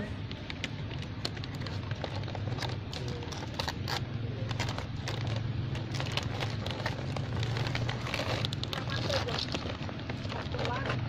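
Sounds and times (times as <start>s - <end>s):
plastic bag crinkling: 0.2s - 11.0s.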